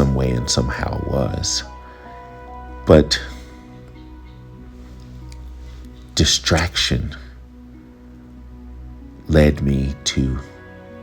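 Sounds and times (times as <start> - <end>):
soft sustained background music: 0.0 - 11.0.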